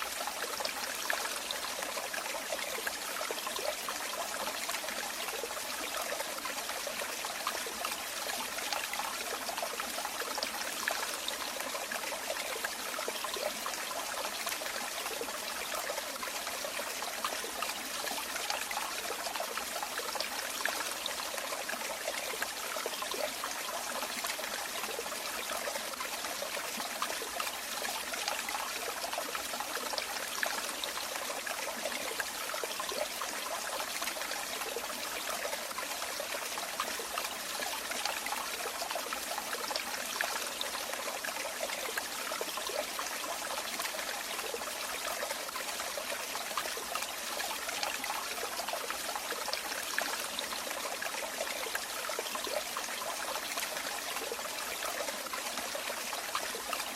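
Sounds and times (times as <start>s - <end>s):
water trickling and splashing: 0.0s - 56.9s.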